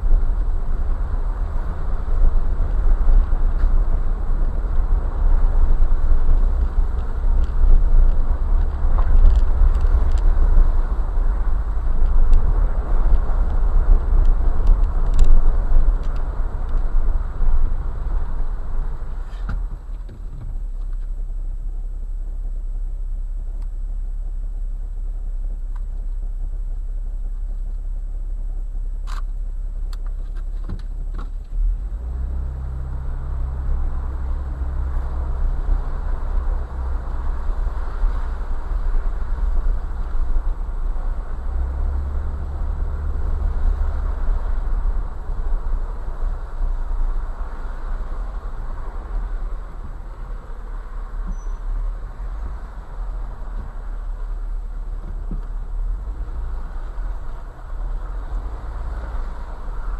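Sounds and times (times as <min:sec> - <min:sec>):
tyres rumbling on gravel: 0:00.0 - 0:21.2, 0:30.1 - 0:59.9
engine droning: 0:00.0 - 0:59.9.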